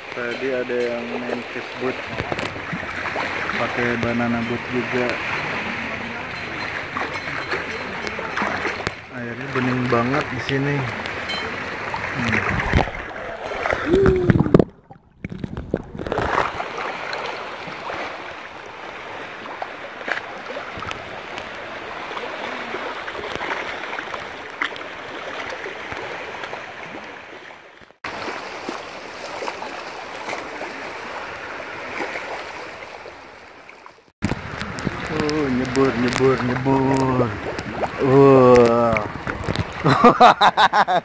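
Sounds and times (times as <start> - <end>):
sea water lapping at shore: 0.0 - 41.0.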